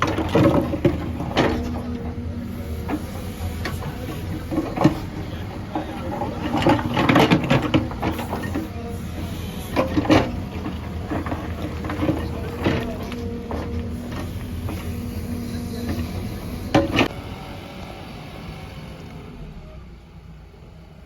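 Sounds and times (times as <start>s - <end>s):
clattering and knocking: 0.0s - 17.1s
diesel engine running: 0.0s - 21.0s.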